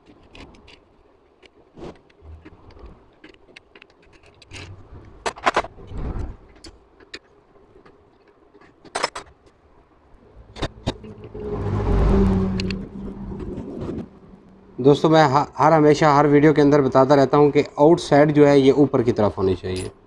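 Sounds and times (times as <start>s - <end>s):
steady hum with noisy whirr: 0.0s - 20.0s.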